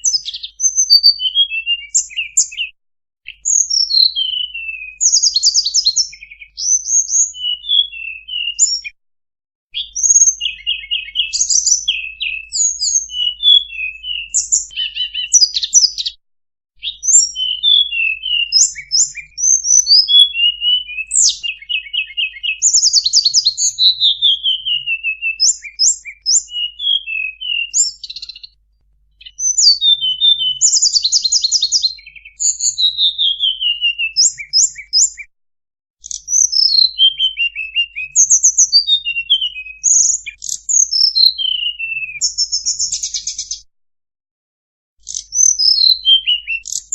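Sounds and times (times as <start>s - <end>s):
songbird singing: 0.0s - 9.0s, 9.8s - 16.2s, 16.8s - 28.6s, 29.2s - 35.3s, 36.0s - 43.6s, 45.0s - 46.9s.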